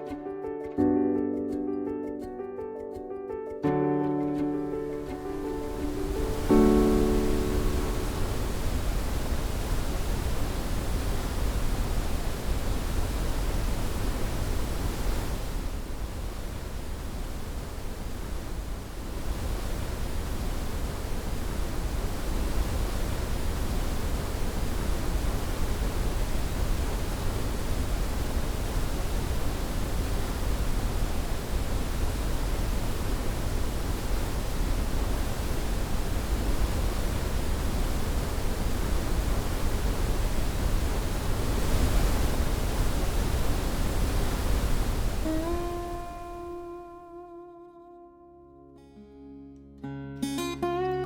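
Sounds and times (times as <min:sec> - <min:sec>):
waterfall rushing: 0:04.6 - 0:46.6.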